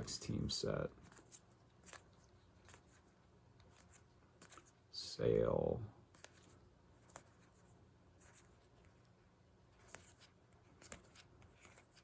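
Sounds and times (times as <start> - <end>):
cards rustling: 0.0 - 4.9, 6.1 - 12.0.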